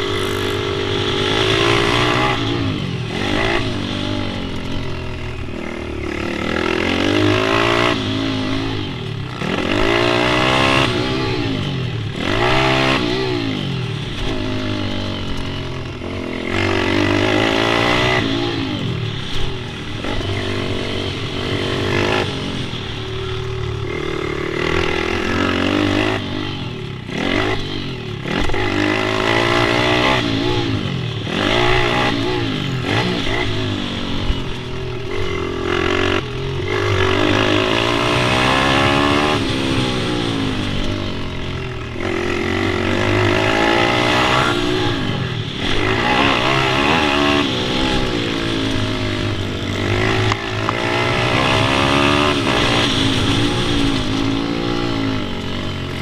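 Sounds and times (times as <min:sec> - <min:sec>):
motorbike engines revving: 0:00.0 - 0:56.0.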